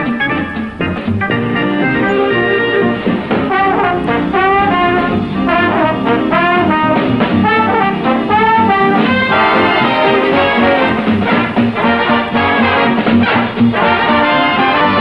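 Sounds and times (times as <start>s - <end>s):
brass cartoon theme music: 0.0s - 15.0s.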